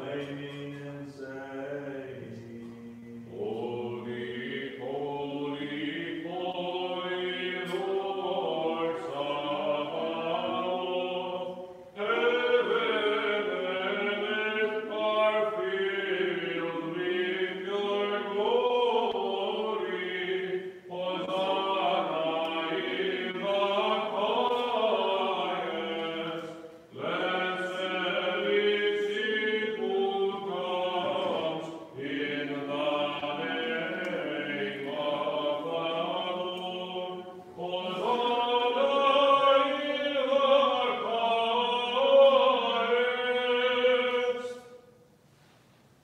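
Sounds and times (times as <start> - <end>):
voices singing chant: 0.0 - 45.0.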